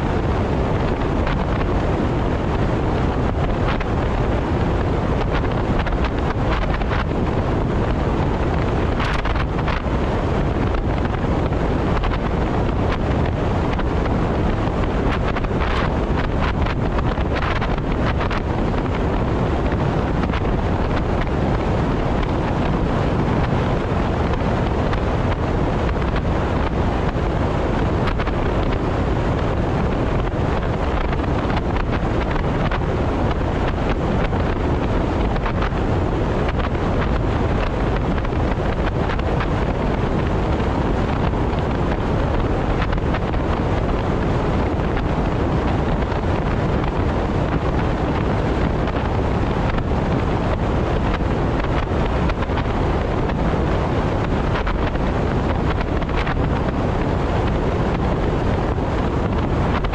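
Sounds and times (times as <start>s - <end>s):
car wind and tyre noise: 0.0s - 59.9s
wind hitting microphone: 0.0s - 59.9s.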